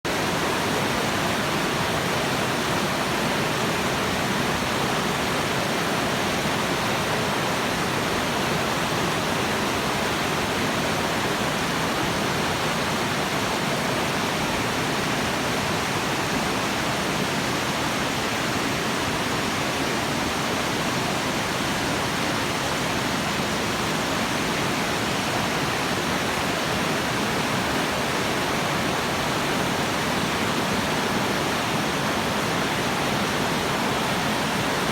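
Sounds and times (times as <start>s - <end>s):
creek water rushing: 0.1s - 34.9s.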